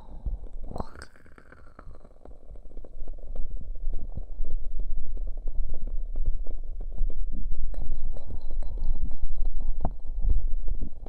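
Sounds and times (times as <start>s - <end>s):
small crackles: 0.0s - 11.0s.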